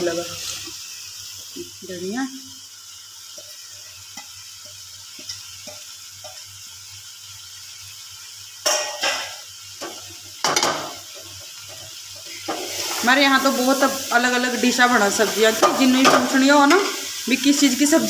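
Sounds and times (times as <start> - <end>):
faint sizzle: 0.0 - 18.0.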